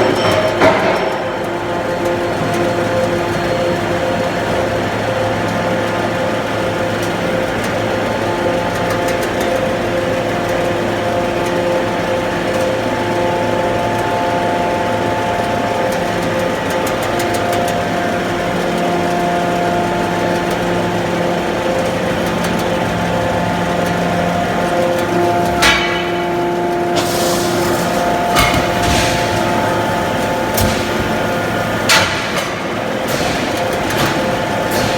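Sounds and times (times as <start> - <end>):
industrial machine humming: 0.0 - 34.9.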